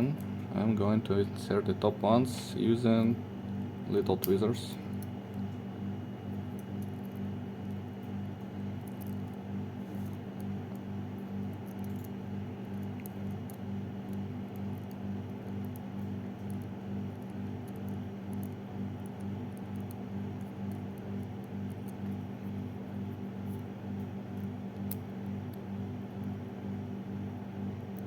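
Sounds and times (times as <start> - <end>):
pulsing low electrical hum: 0.0 - 28.0.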